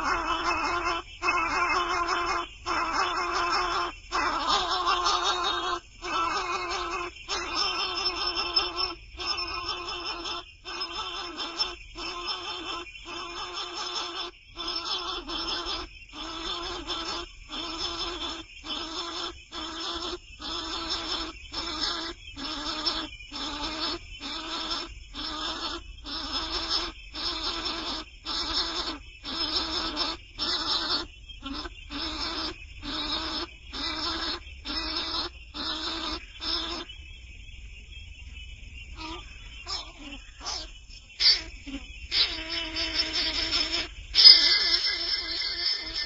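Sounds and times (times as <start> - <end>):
young bird begging calls: 0.0 - 36.9, 38.9 - 46.0.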